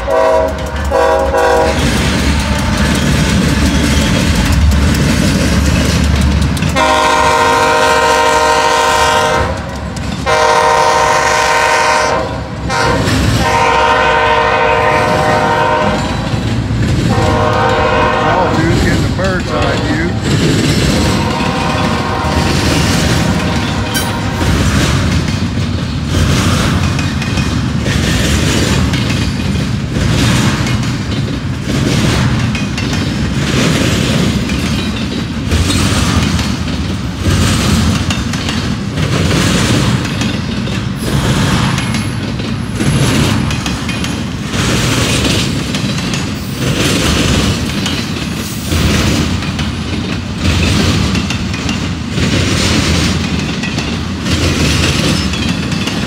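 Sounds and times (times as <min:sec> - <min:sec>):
freight train rumbling past: 0:00.0 - 0:56.0
wheels clacking over rails: 0:00.0 - 0:56.0.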